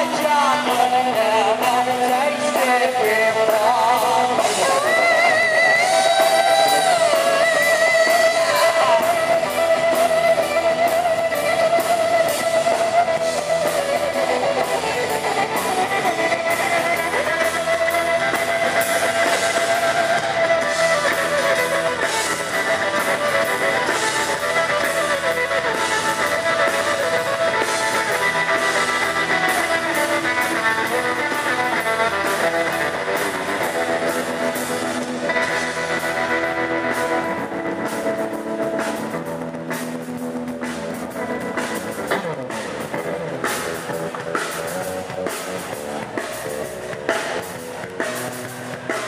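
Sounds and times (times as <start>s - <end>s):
electric guitar bending notes: 0.0s - 49.0s
strummed guitars: 0.0s - 49.0s.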